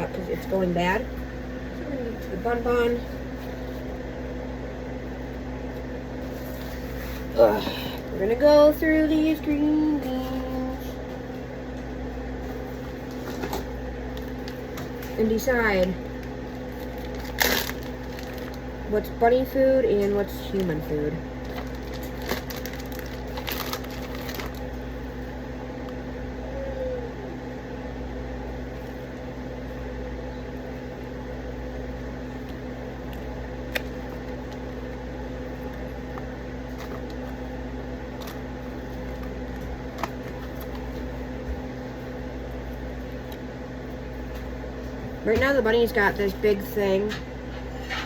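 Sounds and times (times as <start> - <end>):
kitchen appliance humming: 0.0 - 48.0.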